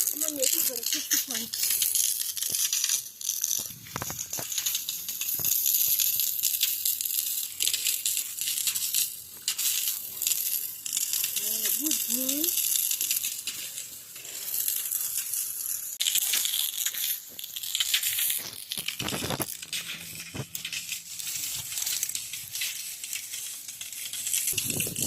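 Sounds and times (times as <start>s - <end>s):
dough deep-frying in hot oil: 0.0s - 25.0s.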